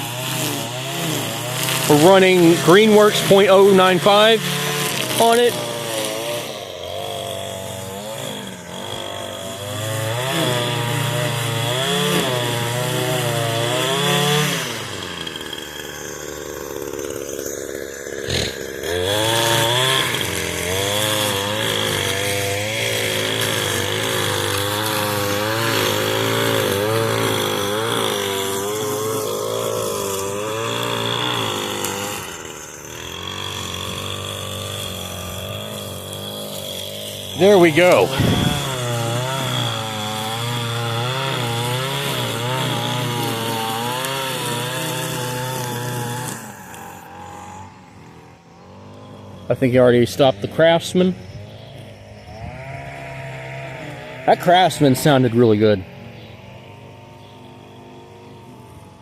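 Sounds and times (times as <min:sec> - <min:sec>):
string trimmer engine revving: 0:00.0 - 0:59.0.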